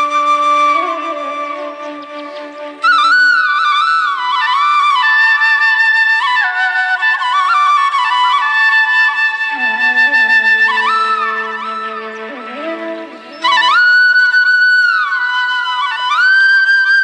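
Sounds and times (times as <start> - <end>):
flute melody: 0.0 - 17.0.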